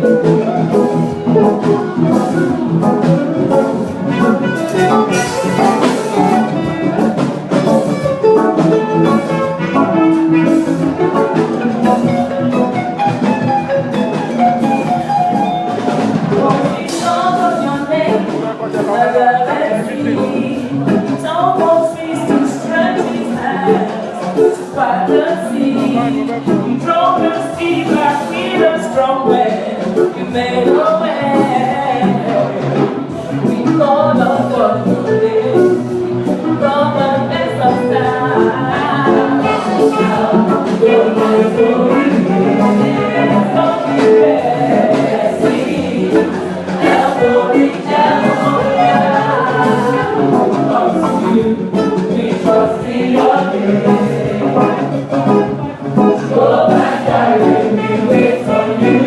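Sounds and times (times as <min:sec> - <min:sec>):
choir singing with accompaniment: 0:00.0 - 0:59.0.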